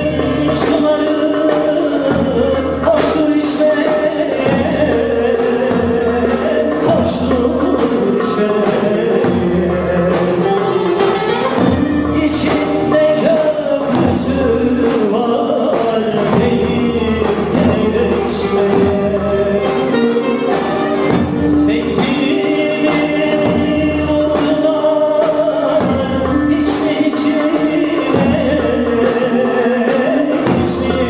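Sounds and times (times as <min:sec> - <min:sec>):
instrumental accompaniment: 0:00.0 - 0:31.0
man singing: 0:00.0 - 0:31.0.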